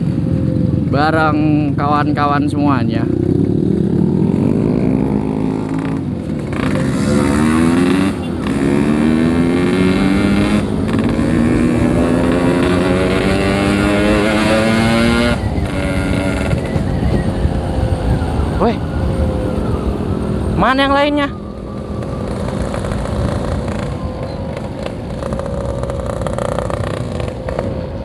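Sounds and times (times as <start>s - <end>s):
motorcycle engine accelerating: 2.8s - 28.0s.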